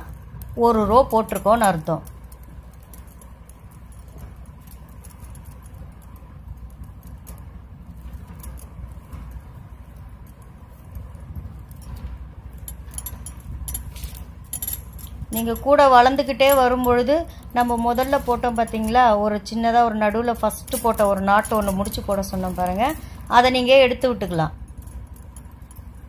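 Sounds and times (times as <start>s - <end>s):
plastic strands rustling and clicking: 0.0s - 26.0s.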